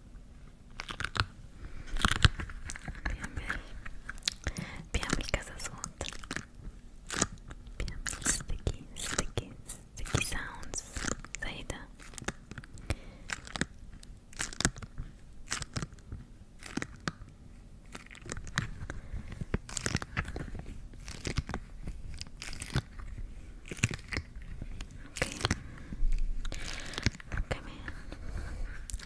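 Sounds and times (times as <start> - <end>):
crisp clicks and crunches: 0.7 - 28.2.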